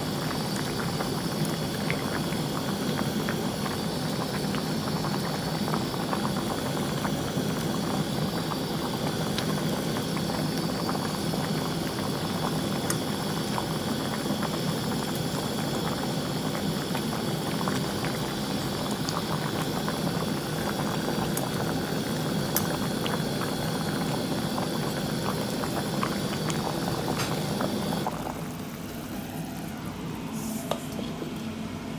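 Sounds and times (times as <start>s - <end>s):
pot boiling hard: 0.0s - 29.8s.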